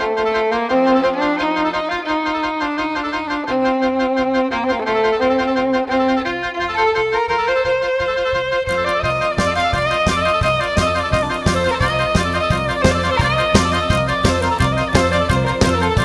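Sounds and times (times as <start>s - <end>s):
fiddle melody: 0.0s - 16.0s
rhythmic accompaniment: 0.0s - 16.0s.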